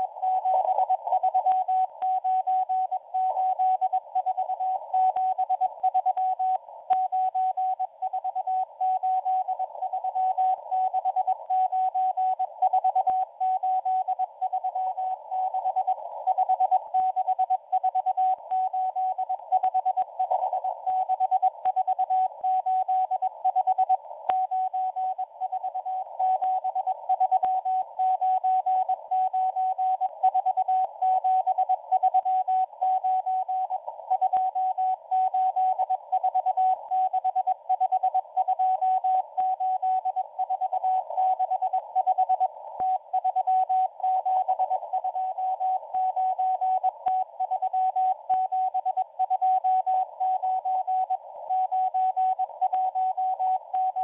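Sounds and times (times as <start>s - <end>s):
faint static crackle: 0.0s - 54.0s
receiver hiss: 0.0s - 54.0s.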